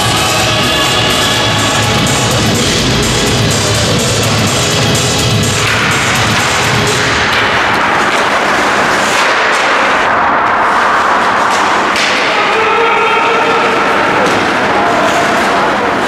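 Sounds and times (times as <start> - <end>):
ice rink noise: 0.0 - 16.0.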